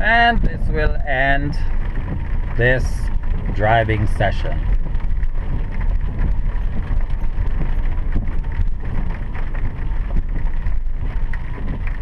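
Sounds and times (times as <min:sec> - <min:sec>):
tyres and engine rumble: 0:00.0 - 0:12.0.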